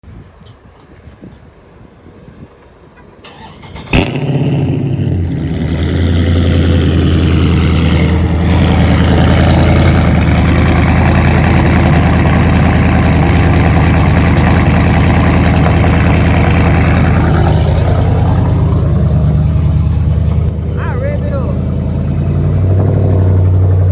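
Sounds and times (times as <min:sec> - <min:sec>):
car engine cold start: 0:03.2 - 0:23.9
car engine idling: 0:03.3 - 0:23.9.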